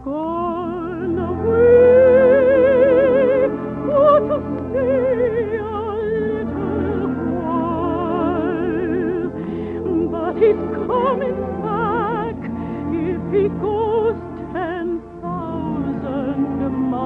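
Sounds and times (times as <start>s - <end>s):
instrumental accompaniment: 0.0s - 17.0s
operatic singing: 0.0s - 17.0s.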